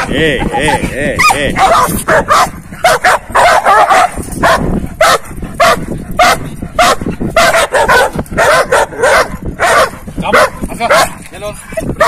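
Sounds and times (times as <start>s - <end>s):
dogs barking: 0.6s - 12.0s.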